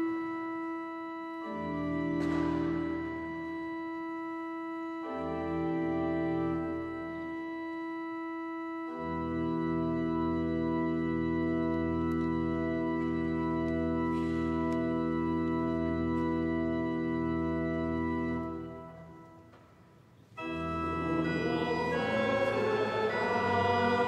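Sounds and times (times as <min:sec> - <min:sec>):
pipe organ chords: 0:00.0 - 0:24.0.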